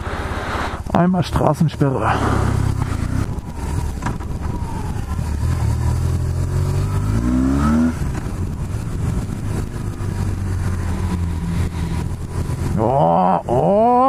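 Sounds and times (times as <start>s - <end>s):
motorcycle engine accelerating: 2.1s - 14.0s.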